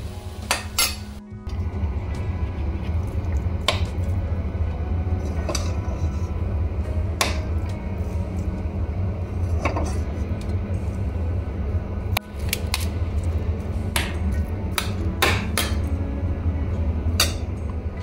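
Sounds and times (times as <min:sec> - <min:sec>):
steady low hum: 0:01.1 - 0:18.0.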